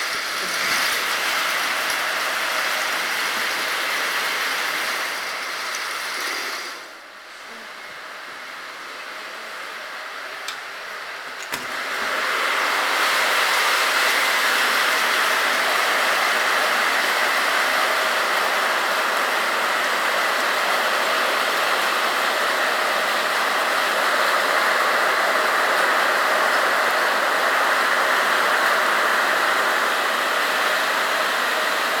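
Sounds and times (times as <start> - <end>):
hail and heavy rain: 0.0 - 6.9, 12.1 - 32.0.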